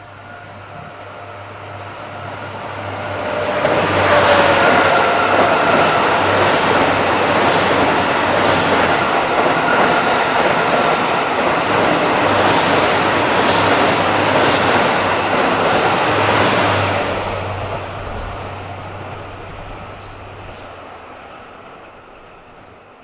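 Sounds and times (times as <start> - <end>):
freight train wheels rolling on rail: 0.0 - 23.0.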